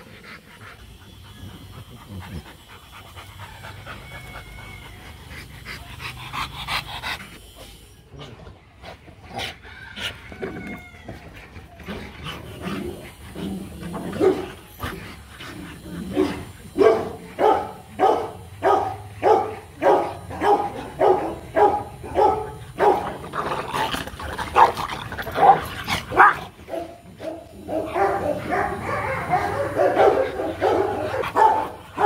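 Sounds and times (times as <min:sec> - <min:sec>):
dogs barking and yipping: 0:00.0 - 0:32.0.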